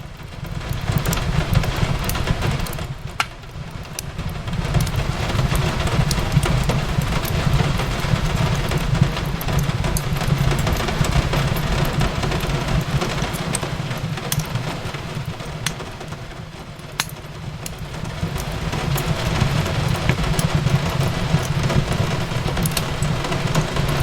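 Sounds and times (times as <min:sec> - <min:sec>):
rain hissing: 0:00.1 - 0:24.0
wood fire crackling and popping: 0:00.1 - 0:24.0.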